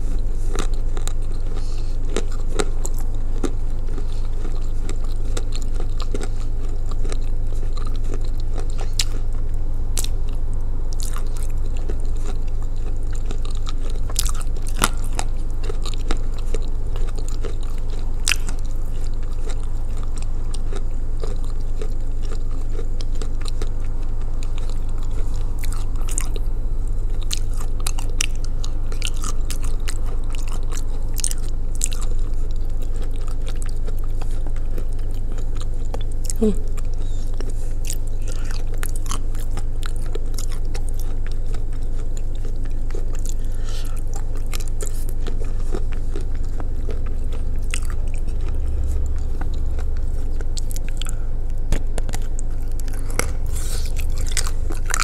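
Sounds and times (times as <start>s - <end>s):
chewing and crunching clay: 0.0s - 55.0s
steady low hum: 0.0s - 55.0s.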